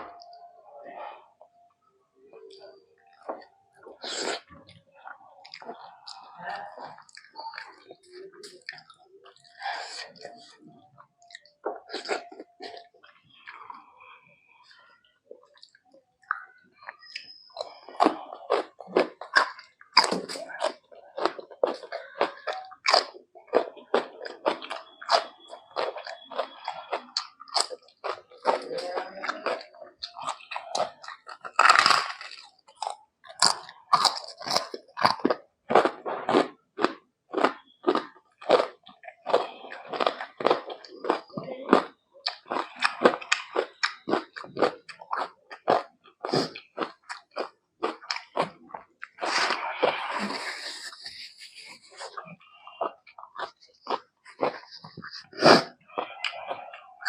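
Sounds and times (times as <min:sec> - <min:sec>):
close chewing with mouth smacks: 0:02.5 - 0:57.0.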